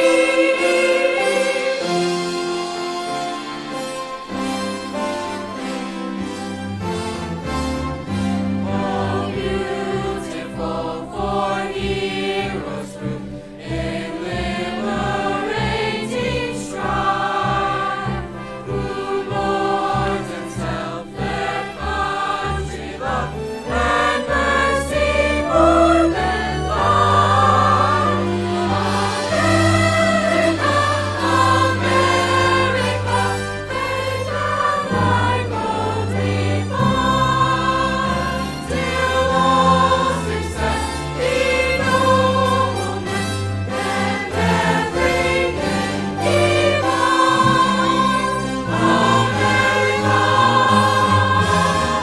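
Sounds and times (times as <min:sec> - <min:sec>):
school choir singing: 0:00.0 - 0:03.9, 0:08.4 - 0:52.0.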